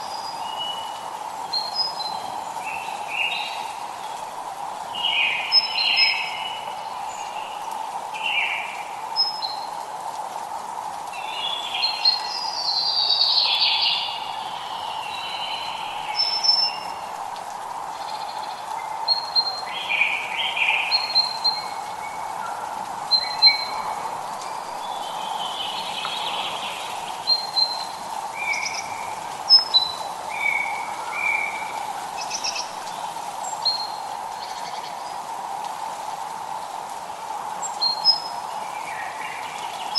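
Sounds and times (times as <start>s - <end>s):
birds singing and chirping: 0.0s - 9.7s, 11.1s - 17.2s, 18.0s - 35.2s, 37.5s - 39.9s.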